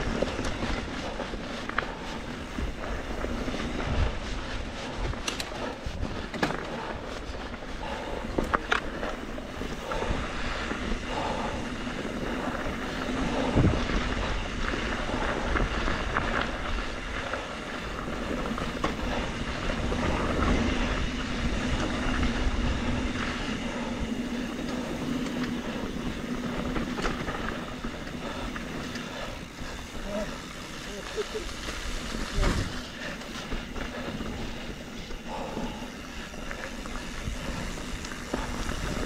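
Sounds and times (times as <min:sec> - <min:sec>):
steady hum: 0:00.0 - 0:39.0
tyres rolling over dirt and rock: 0:00.0 - 0:39.0
wind rumbling on microphone: 0:00.0 - 0:39.0.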